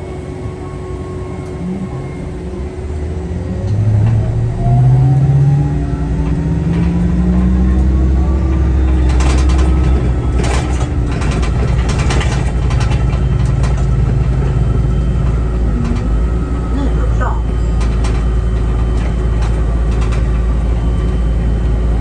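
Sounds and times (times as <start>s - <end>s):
bus engine accelerating: 0.0s - 22.0s.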